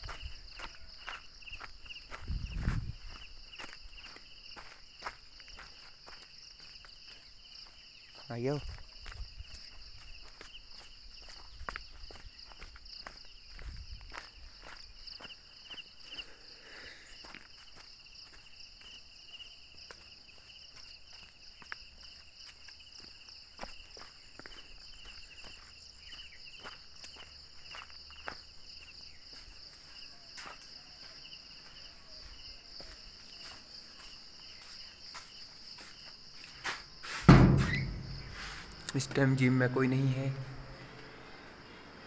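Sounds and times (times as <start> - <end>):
footsteps on dirt path: 0.0 - 39.4
high-pitched pulsing insect chorus: 0.0 - 42.0.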